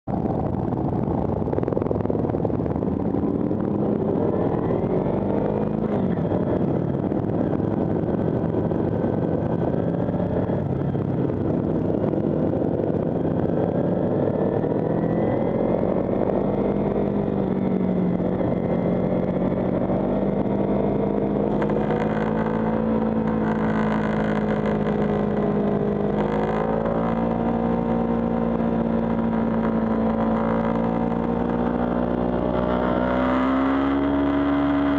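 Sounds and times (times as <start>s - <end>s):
wind rushing over microphone: 0.0s - 34.9s
motorcycle engine accelerating: 0.1s - 34.9s.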